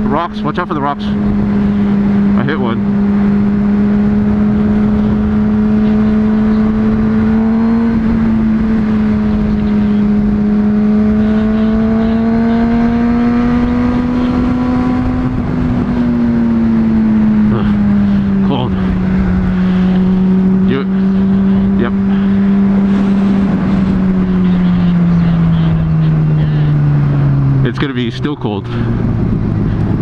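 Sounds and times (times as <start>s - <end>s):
motorcycle engine running: 0.0s - 30.0s
wind noise: 1.0s - 30.0s.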